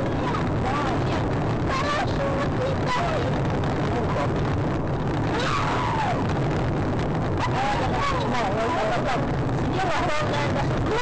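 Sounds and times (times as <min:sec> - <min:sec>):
road and wind noise from car: 0:00.0 - 0:11.0.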